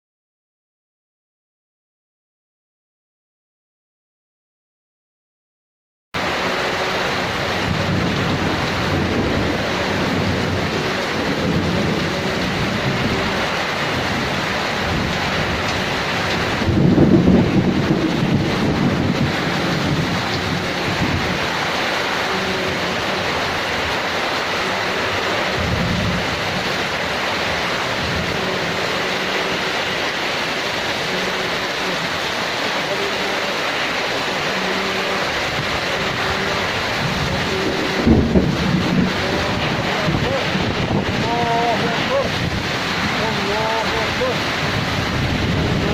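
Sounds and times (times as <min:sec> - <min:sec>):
heavy rain hissing: 0:06.2 - 0:45.9
low thunder rumble: 0:06.5 - 0:33.1, 0:34.2 - 0:45.9.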